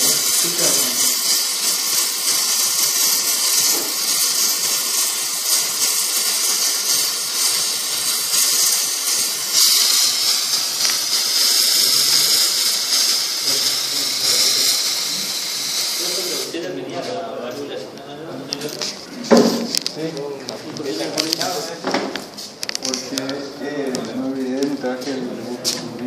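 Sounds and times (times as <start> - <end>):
torch flame hissing: 0.0 - 16.7, 18.8 - 25.1.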